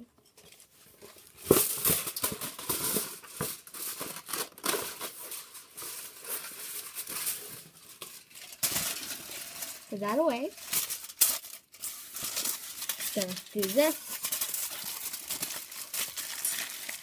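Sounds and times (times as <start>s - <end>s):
aluminium foil crinkling: 0.3s - 17.0s.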